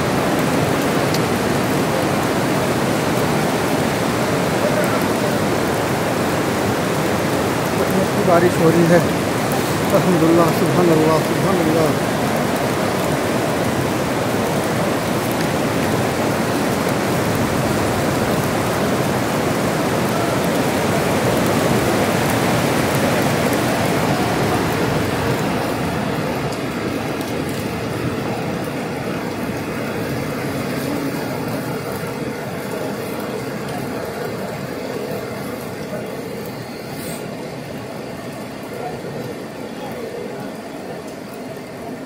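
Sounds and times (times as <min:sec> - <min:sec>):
rain on fabric canopy: 0:00.0 - 0:42.0.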